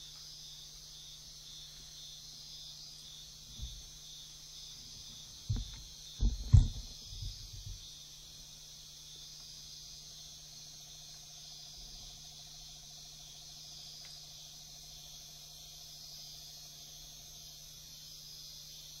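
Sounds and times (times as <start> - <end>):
low steady hum: 0.0 - 19.0
night insects chorus: 0.0 - 19.0.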